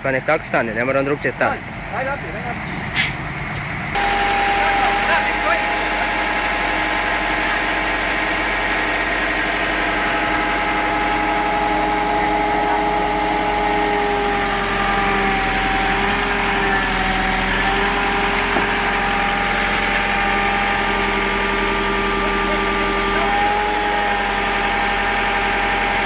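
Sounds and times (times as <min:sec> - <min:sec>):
excavator diesel engine whining: 0:02.5 - 0:26.0.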